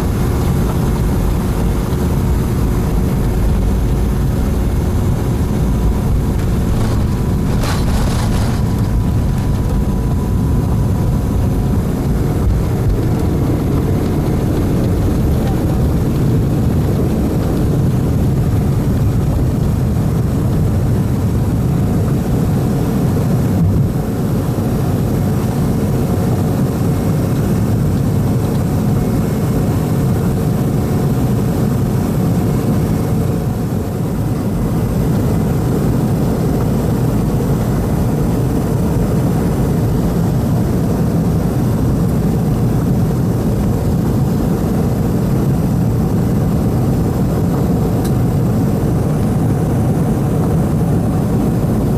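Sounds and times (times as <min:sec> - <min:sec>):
jet engines at takeoff thrust: 0:00.0 - 0:51.9.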